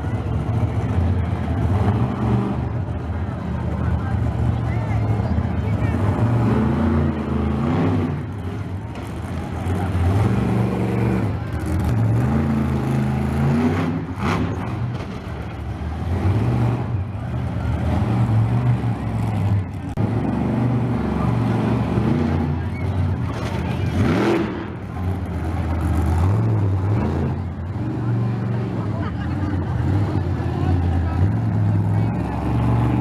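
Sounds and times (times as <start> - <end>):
truck engine revving loudly: 0.0 - 33.0.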